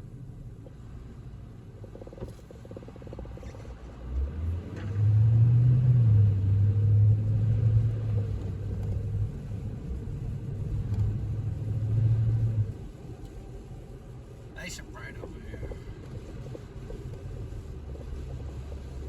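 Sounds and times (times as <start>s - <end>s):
car cabin low rumble: 0.0s - 19.0s.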